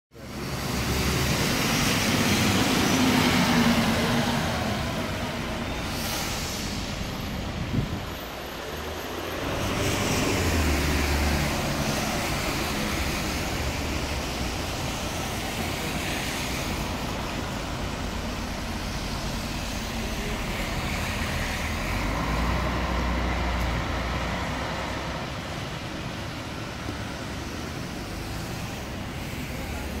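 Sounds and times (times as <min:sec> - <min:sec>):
traffic and tyre noise on wet road: 0:00.1 - 0:30.0
bus passing: 0:00.2 - 0:30.0.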